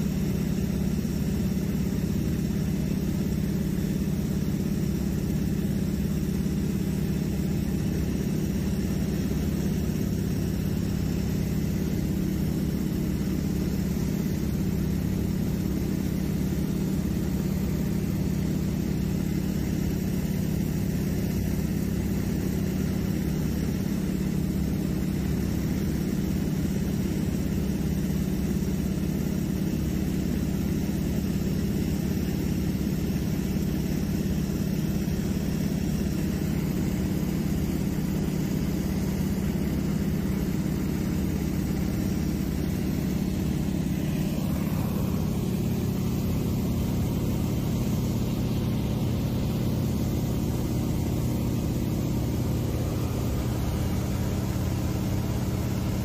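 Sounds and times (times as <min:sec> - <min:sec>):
propeller engine droning: 0:00.0 - 0:56.0.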